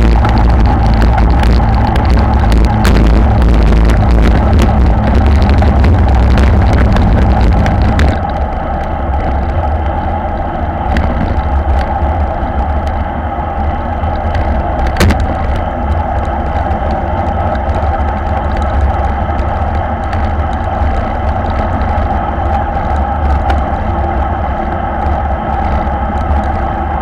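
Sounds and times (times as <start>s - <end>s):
bike tyres on asphalt: 0.0s - 27.0s
wind buffeting microphone: 0.0s - 27.0s.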